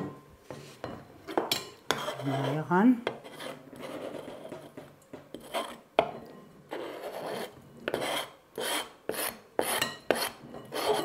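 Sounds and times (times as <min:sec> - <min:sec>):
knife scraping cutting board: 0:00.5 - 0:11.0.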